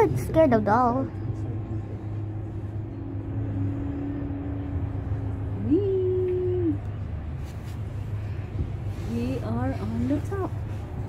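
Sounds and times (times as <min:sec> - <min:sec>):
steady low drone: 0:00.0 - 0:11.0.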